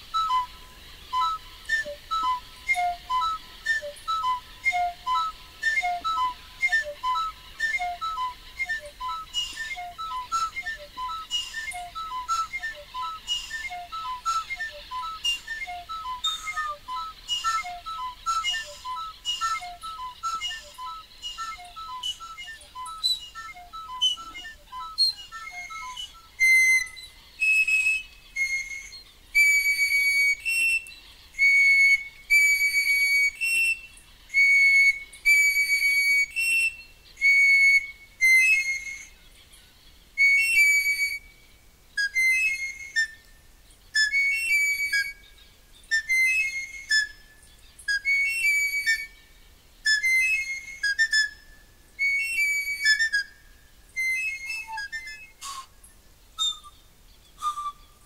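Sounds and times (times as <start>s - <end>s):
panpipe whistle notes: 0.0s - 39.2s, 40.2s - 58.0s.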